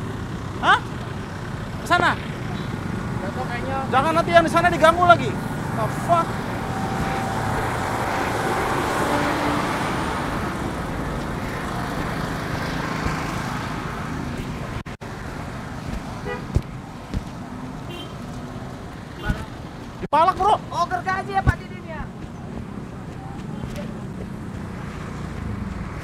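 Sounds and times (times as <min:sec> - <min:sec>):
car engines rumbling: 0:00.0 - 0:26.0
road noise: 0:00.0 - 0:26.0.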